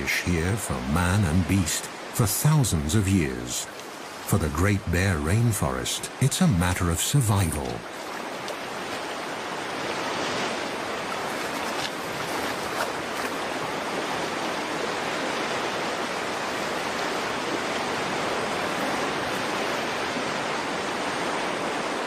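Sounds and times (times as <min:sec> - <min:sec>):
stream water rushing: 0:00.0 - 0:22.0
water splashes: 0:00.0 - 0:22.0.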